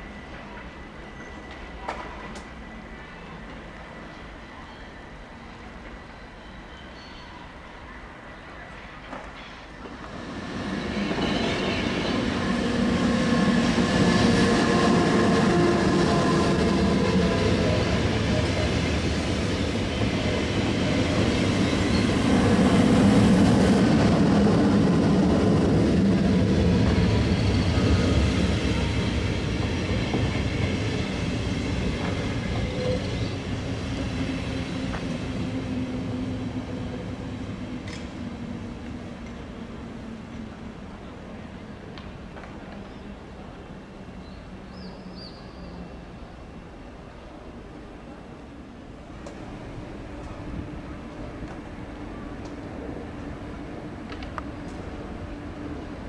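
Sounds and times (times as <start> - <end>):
train wheels rumbling on rail: 0.0 - 4.8, 8.4 - 56.0.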